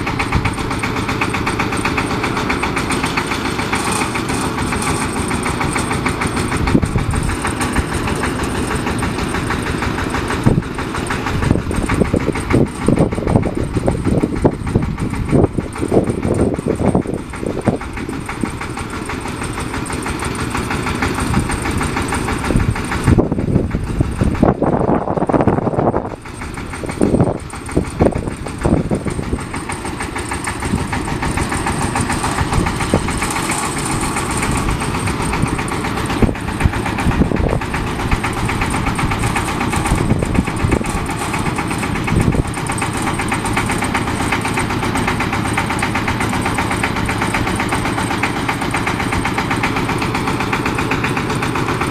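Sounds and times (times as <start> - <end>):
diesel engine chattering: 0.0 - 51.9.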